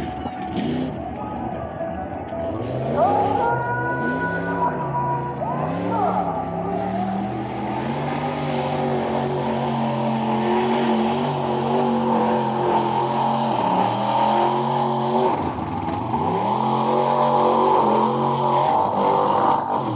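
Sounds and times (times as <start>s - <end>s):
truck engine running hard: 0.0s - 19.9s.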